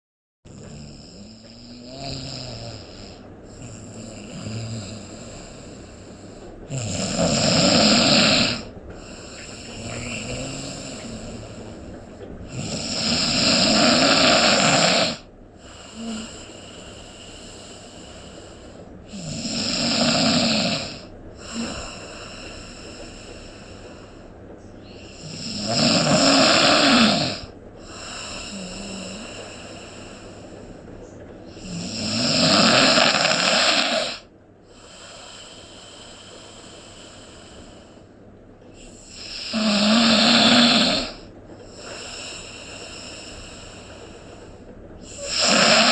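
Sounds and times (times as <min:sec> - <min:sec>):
loud snoring: 0:00.5 - 0:24.1, 0:24.9 - 0:30.8, 0:31.5 - 0:38.0, 0:38.8 - 0:44.4, 0:45.0 - 0:45.9
breathy breathing: 0:00.5 - 0:45.9.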